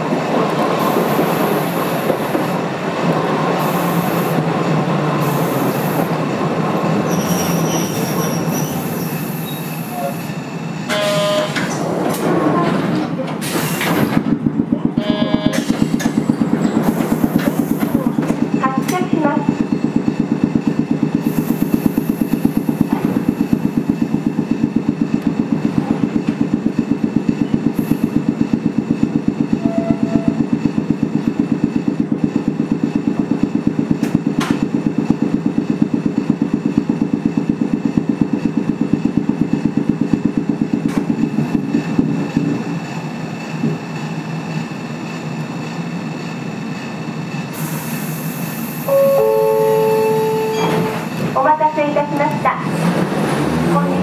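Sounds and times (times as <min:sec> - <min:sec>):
tram rhythmic chugging: 0:00.0 - 0:54.0.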